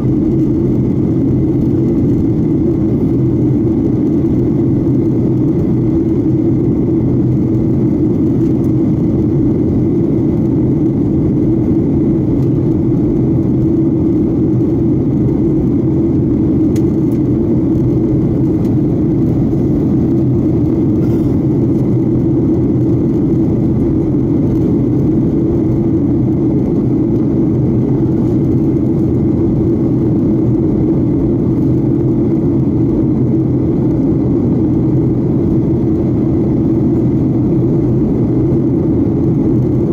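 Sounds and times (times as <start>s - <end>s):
jet engines droning in cabin: 0.0s - 39.9s
rushing airflow: 0.0s - 39.9s.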